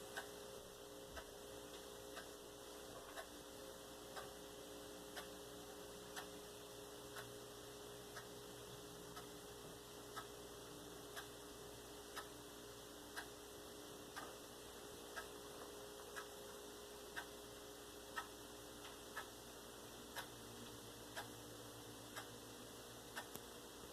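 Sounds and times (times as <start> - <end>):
clock ticking: 0.0 - 23.9
faint steady hum: 0.0 - 23.9.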